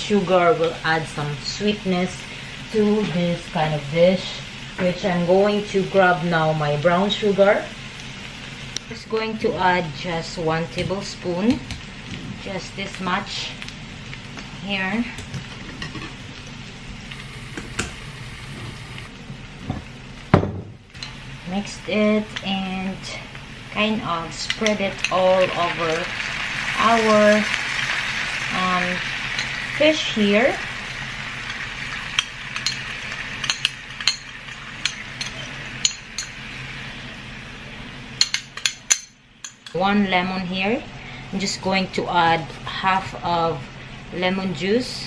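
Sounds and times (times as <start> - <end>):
fish sizzling in a frying pan: 0.0 - 39.6
low mechanical hum: 0.0 - 45.0.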